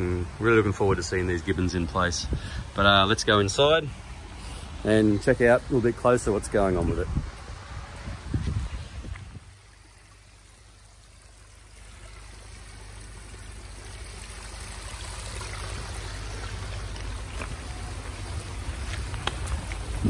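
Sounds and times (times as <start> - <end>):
water trickling over rocks: 0.0 - 20.0.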